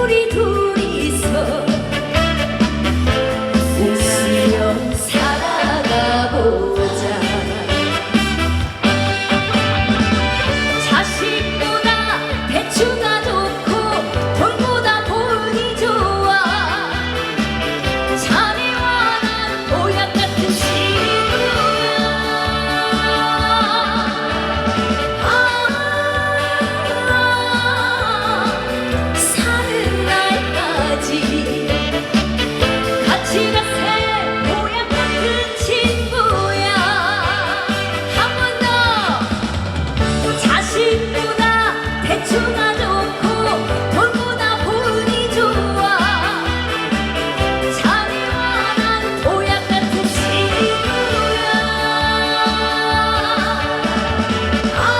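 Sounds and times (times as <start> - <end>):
woman singing: 0.0 - 9.0, 10.4 - 54.9
accompaniment with bass and beat: 0.0 - 54.9.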